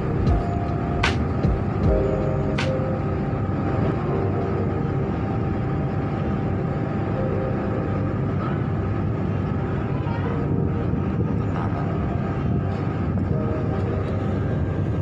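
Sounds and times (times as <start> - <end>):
faint hum: 0.0 - 15.0
ship engines droning: 0.0 - 15.0.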